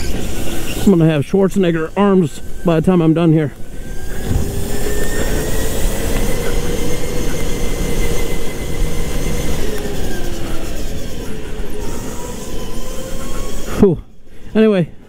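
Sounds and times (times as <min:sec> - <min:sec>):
kart rumble on track: 0:00.0 - 0:14.0
go-kart motor whine: 0:00.0 - 0:14.5.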